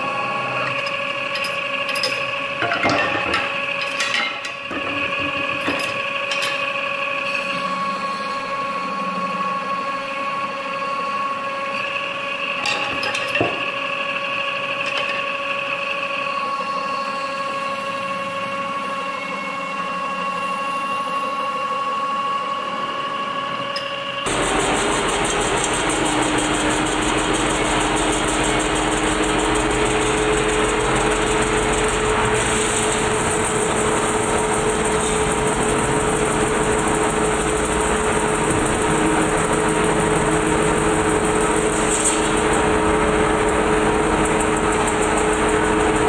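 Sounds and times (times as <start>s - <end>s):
lathe whine: 0.0s - 46.0s.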